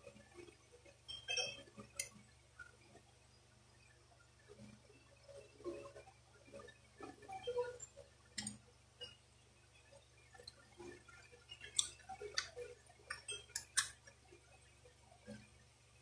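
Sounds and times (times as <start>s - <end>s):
metal and wood clicking and tapping: 0.0s - 3.1s, 4.4s - 9.2s, 10.3s - 15.6s.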